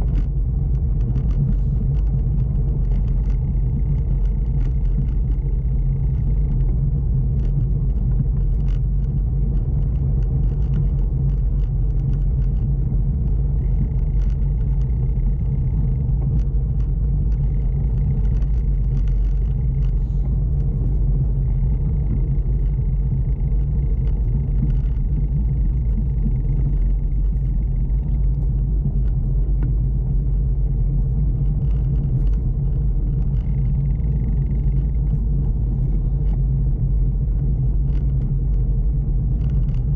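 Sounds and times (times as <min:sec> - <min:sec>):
small clicks and rattles: 0:00.0 - 0:39.9.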